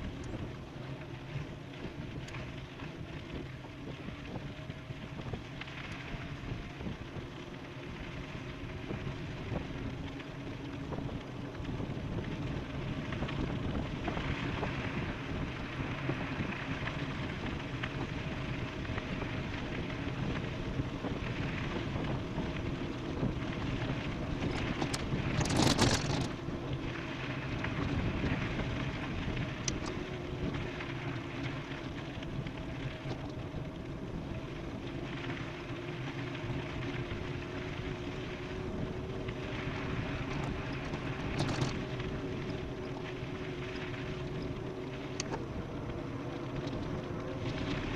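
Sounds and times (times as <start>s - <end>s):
e-bike rolling at speed: 0.0s - 47.9s
wind buffeting microphone: 0.0s - 47.9s.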